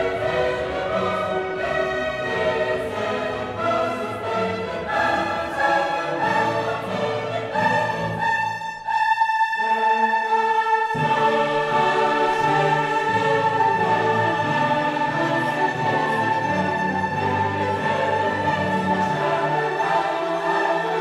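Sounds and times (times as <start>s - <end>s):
orchestral music with choir: 0.0s - 21.0s.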